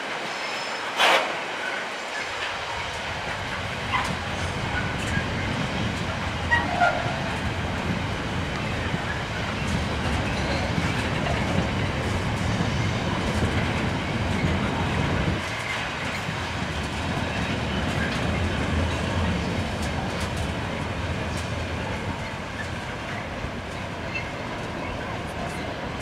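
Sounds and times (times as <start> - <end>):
train wagons rolling on rails: 0.0 - 26.0.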